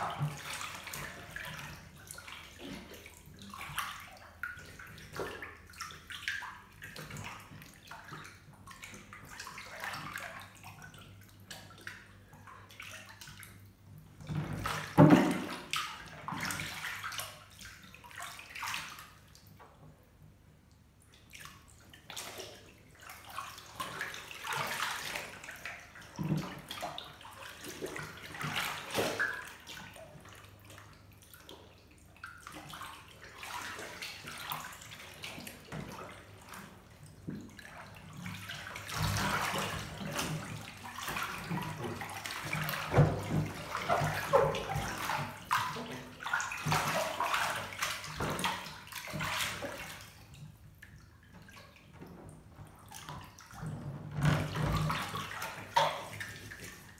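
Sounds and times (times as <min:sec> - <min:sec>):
bathwater sloshing and splashing: 0:00.0 - 0:56.9.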